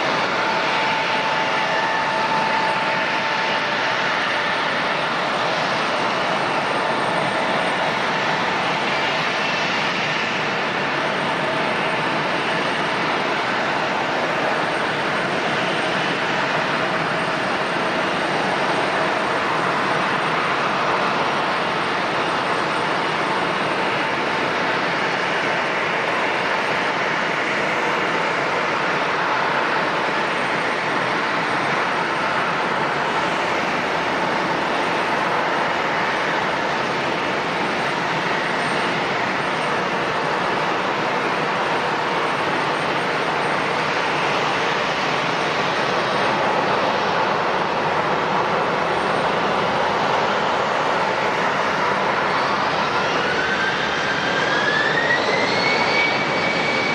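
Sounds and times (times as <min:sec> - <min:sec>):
jet engines running: 0:00.0 - 0:56.9.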